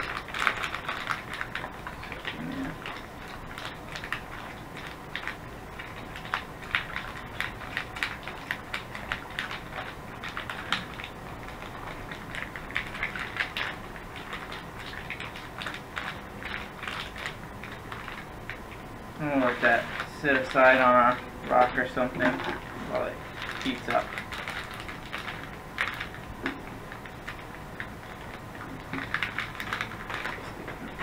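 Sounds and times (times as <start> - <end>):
heater bag crackling: 0.0 - 31.0.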